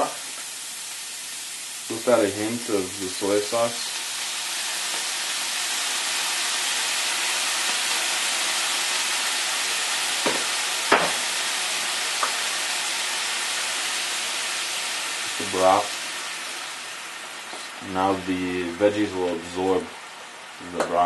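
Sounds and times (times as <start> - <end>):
vegetables sizzling in a skillet: 0.0 - 21.0.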